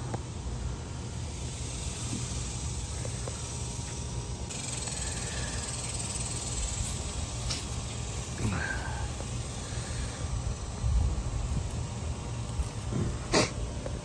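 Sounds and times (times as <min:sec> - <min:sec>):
insects buzzing shrill drone: 0:00.0 - 0:13.8.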